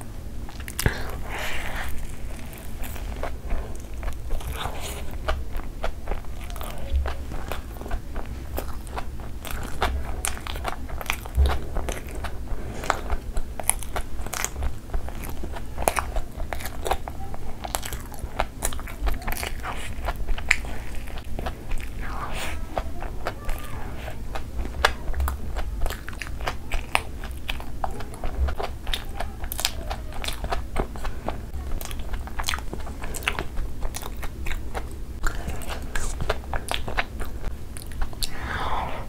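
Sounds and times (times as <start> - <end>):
chewing and biting food: 0.0 - 39.0.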